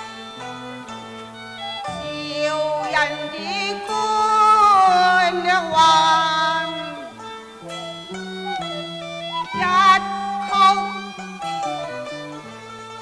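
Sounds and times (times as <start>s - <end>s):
opera ensemble with bowed string: 0.0s - 13.0s.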